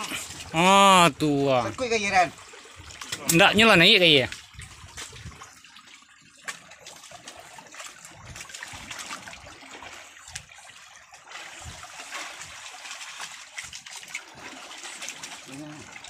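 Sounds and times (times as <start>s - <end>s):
sea water splashing against boat hull: 1.2s - 16.0s.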